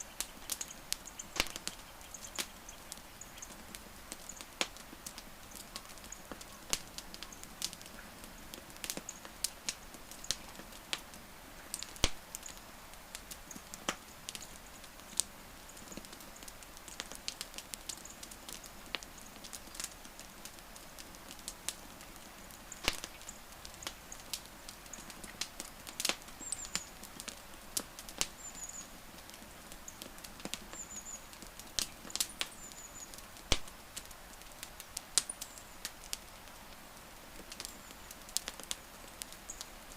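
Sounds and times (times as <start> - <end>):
campfire crackling: 0.0 - 39.9
soft hiss of fire: 0.0 - 39.9.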